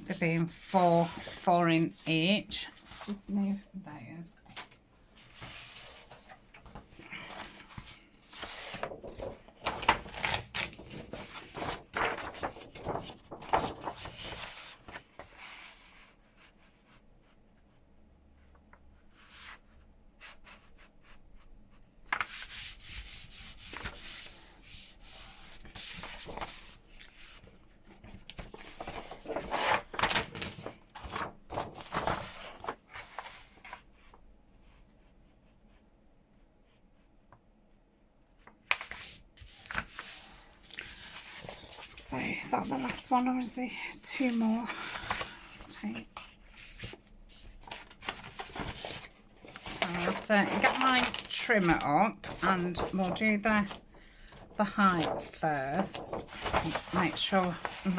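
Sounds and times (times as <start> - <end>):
paper folding and rustling: 0.0 - 3.6, 4.4 - 17.0, 22.1 - 34.8, 38.4 - 57.9.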